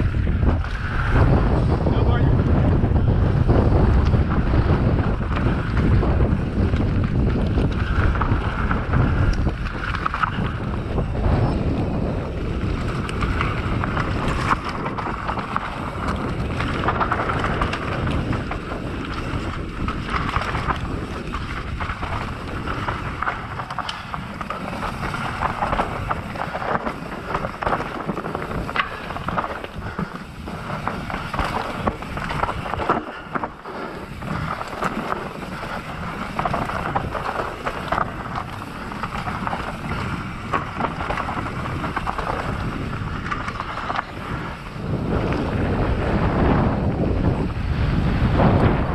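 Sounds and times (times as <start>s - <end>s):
bike knocking and rattling: 0.0s - 48.9s
tyres rolling over dirt and rock: 0.0s - 48.9s
wind rushing over microphone: 0.0s - 48.9s.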